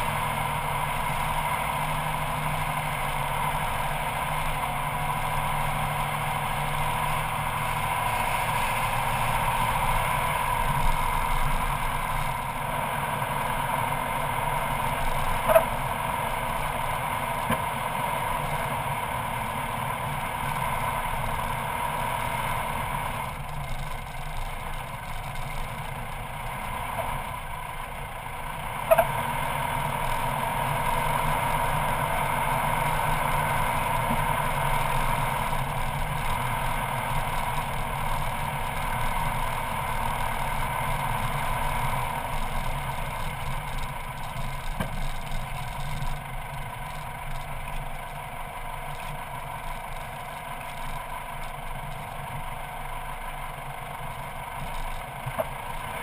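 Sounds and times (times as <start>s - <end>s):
vehicle engine driving slowly: 0.0s - 56.0s.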